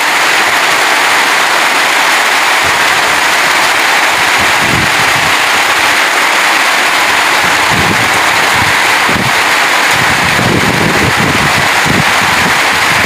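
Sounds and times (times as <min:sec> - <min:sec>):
heavy rain on metal roof: 0:00.0 - 0:13.0.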